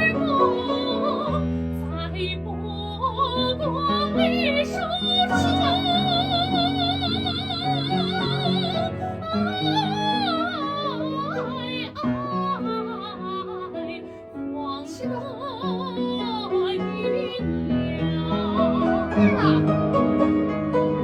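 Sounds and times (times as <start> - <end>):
soprano singing with vibrato: 0.0 - 19.8
piano accompaniment: 0.0 - 21.0.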